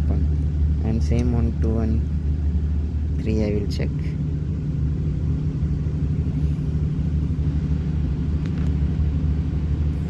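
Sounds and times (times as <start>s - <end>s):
machinery low rumble: 0.0s - 10.0s.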